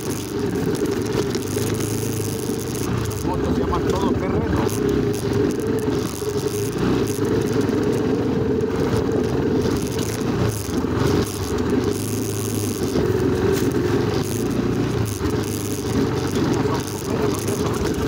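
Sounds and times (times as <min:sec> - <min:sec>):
rumble and rattle on dirt track: 0:00.0 - 0:18.0
vehicle engine running: 0:00.0 - 0:18.0.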